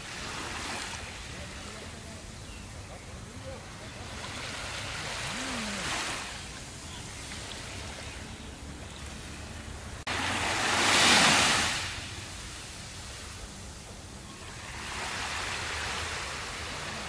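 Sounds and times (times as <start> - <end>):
waves washing onto sand: 0.0 - 17.0.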